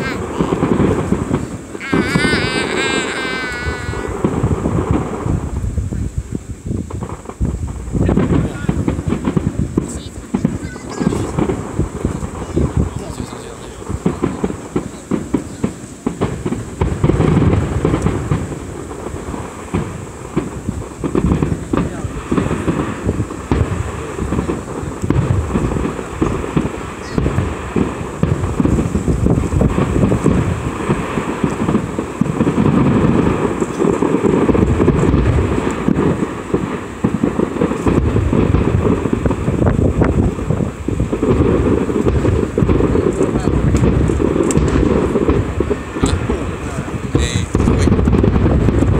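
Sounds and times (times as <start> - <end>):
fireworks bangs and booms: 0.0 - 48.9
fireworks crackling: 0.0 - 48.9.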